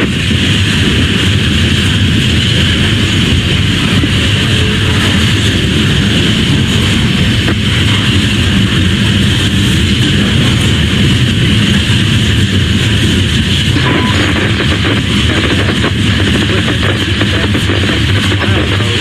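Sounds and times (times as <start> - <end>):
freight train wheels rumbling on rails: 0.0 - 19.0.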